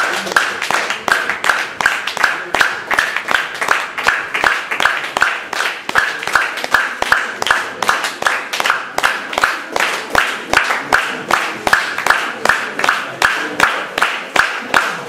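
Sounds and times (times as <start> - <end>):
audience clapping: 0.0 - 15.0.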